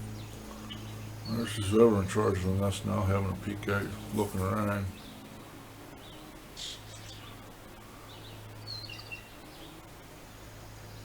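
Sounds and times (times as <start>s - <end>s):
low town noise hum: 0.0s - 11.0s
songbirds chirping: 0.0s - 11.0s.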